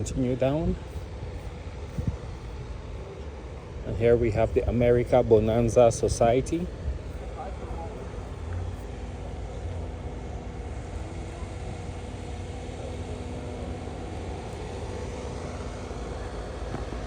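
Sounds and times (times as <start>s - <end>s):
faint continuous hum: 0.0s - 17.0s
outdoor background rumble: 0.0s - 17.0s.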